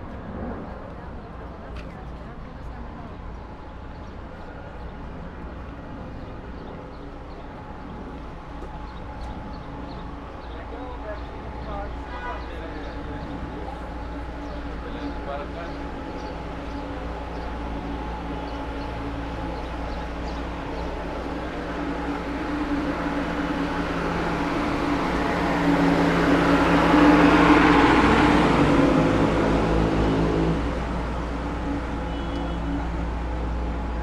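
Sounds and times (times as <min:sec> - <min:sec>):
elevated subway train passing: 0:00.0 - 0:34.0
street background noise: 0:00.0 - 0:34.0.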